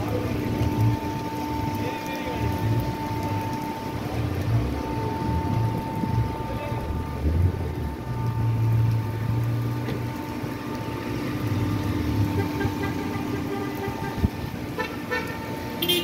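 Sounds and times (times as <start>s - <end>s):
steady traffic hum: 0.0s - 16.0s
traffic engine rumble: 0.0s - 16.0s.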